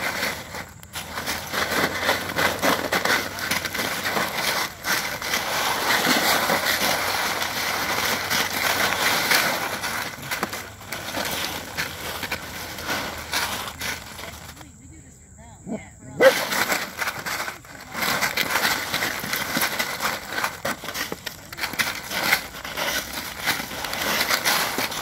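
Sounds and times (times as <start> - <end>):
ice cubes crunching under paws: 0.0 - 14.7, 16.2 - 25.0.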